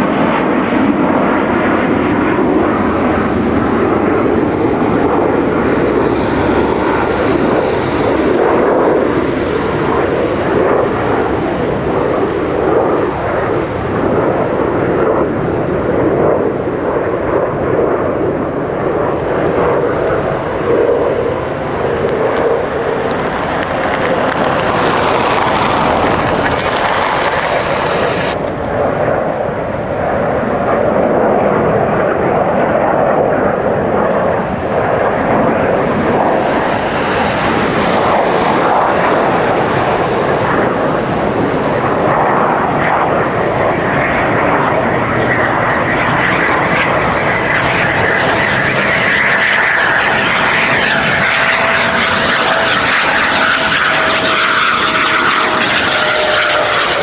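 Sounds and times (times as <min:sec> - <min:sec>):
high engine whine: 0:00.0 - 0:57.0
jet engine noise: 0:00.0 - 0:57.0.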